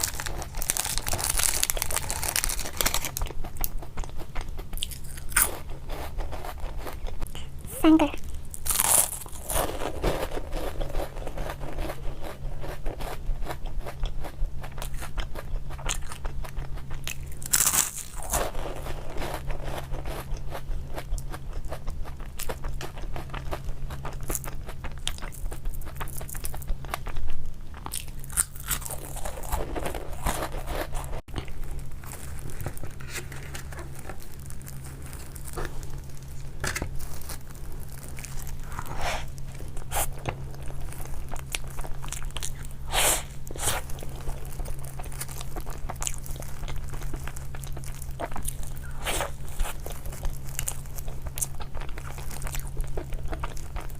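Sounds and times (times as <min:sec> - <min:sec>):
crunchy snack being chewed: 0:00.0 - 0:53.9
steady low hum: 0:00.0 - 0:53.9.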